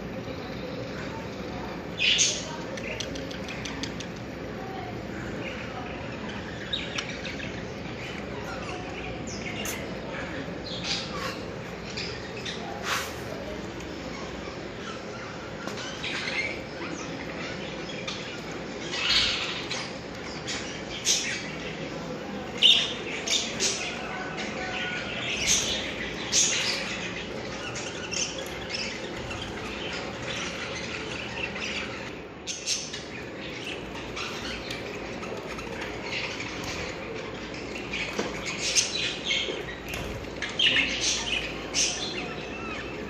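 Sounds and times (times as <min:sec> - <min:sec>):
low background noise: 0:00.0 - 0:43.0
budgerigars chirping and squawking: 0:05.8 - 0:13.4, 0:14.3 - 0:21.7, 0:22.6 - 0:43.0.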